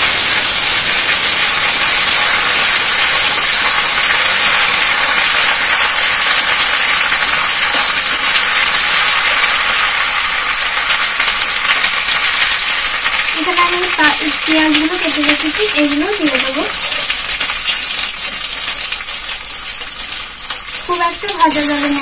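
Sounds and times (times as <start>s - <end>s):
paste sizzling in hot oil: 0.0s - 22.0s.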